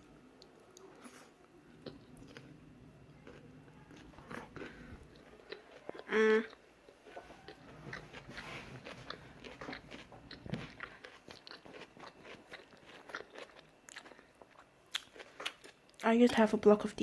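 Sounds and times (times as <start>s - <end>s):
person chewing noodles: 0.4s - 2.6s, 3.2s - 16.0s.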